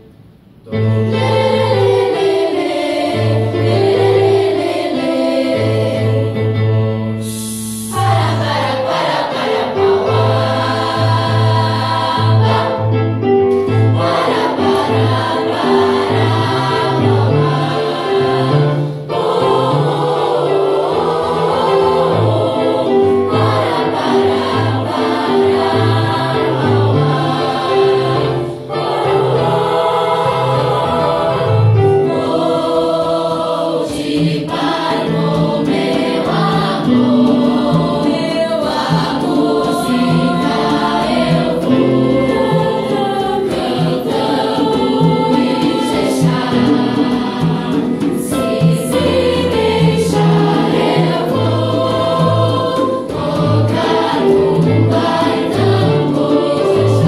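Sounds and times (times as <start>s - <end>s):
children's choir singing: 0.6s - 57.0s.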